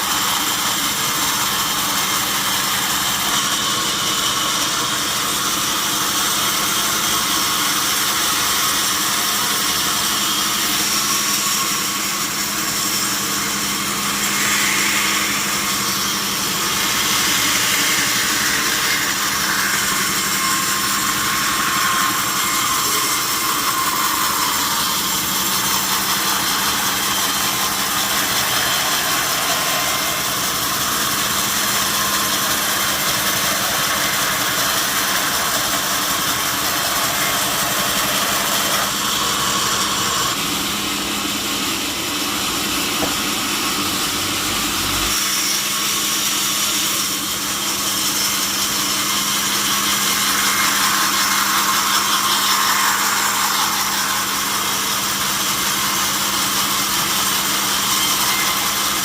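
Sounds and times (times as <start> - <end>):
sawmill saw cutting timber: 0.0 - 59.0.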